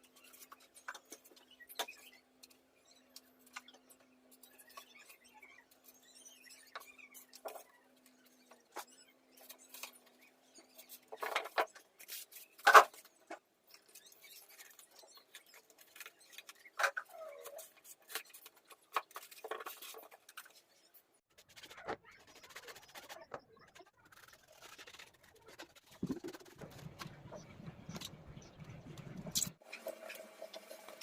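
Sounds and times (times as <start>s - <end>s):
objects clicking and scratching: 0.0s - 31.0s.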